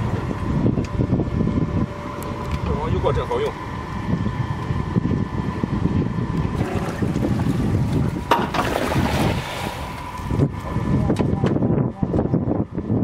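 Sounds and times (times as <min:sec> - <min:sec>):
boat motor whining: 0:00.0 - 0:13.0
wind rumble on microphone: 0:00.0 - 0:13.0.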